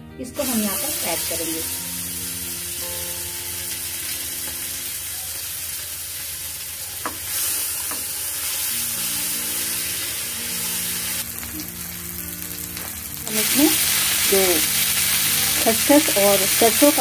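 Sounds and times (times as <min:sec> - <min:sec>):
paste sizzling in a frying pan: 0:00.4 - 0:17.0.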